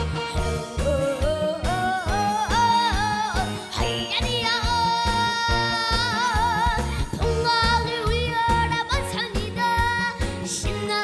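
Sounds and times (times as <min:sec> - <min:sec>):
band accompaniment with steady beat: 0:00.0 - 0:11.0
boy singing into microphone: 0:00.6 - 0:11.0.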